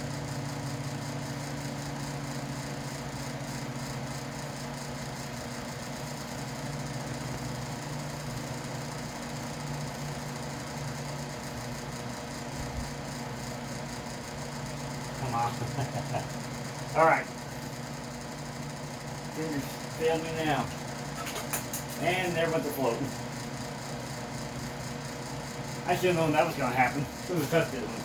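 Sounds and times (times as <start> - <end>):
electric fan humming: 0.0 - 28.0.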